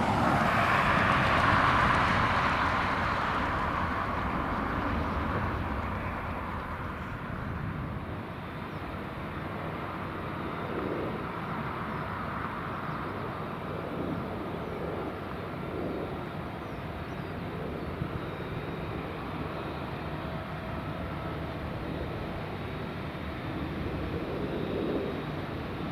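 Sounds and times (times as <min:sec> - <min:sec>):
jet engines rumbling: 0:00.0 - 0:25.9.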